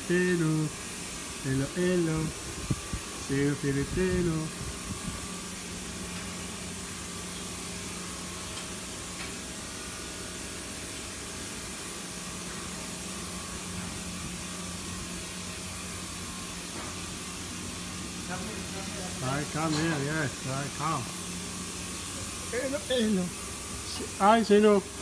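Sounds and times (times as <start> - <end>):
machine humming with hiss: 0.0 - 25.0.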